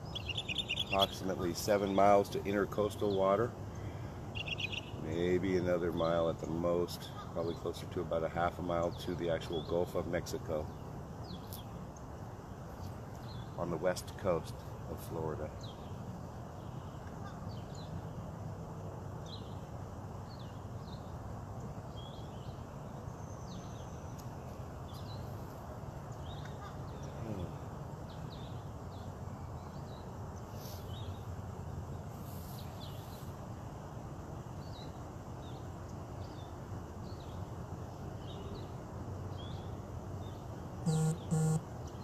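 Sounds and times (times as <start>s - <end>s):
distant road traffic rumble: 0.0s - 42.0s
songbirds chirping: 0.0s - 42.0s.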